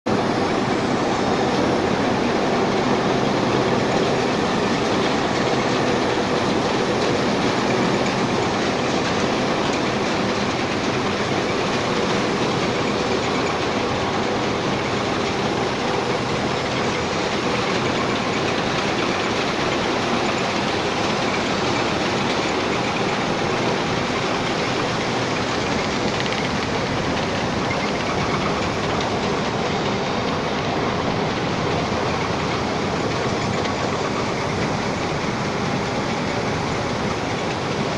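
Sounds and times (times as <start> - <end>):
machine clatter: 0.1 - 37.9
sand washing machine rumbling: 0.1 - 37.9.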